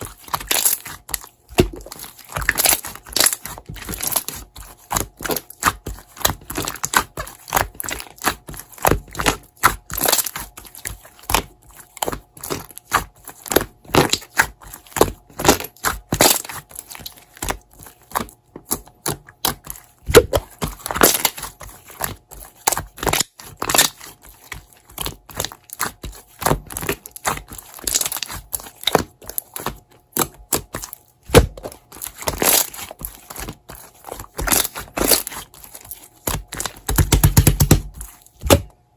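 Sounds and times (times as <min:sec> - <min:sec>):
slime crackling and popping: 0:00.1 - 0:38.6.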